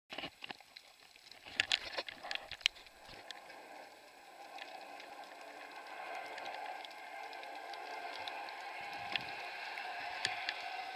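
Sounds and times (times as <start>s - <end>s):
underwater crackles and clicks: 0.1s - 10.9s
muffled underwater hiss: 0.6s - 10.9s.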